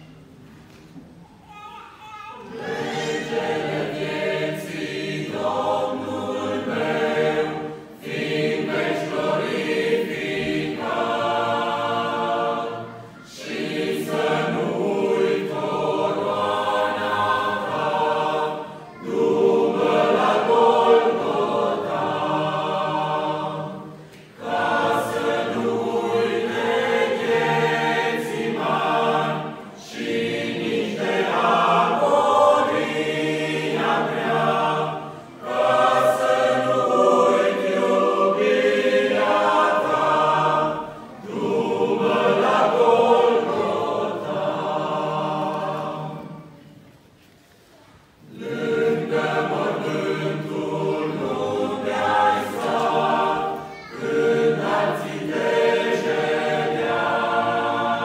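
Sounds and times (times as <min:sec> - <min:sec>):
mixed choir singing a hymn: 0:02.4 - 0:58.0.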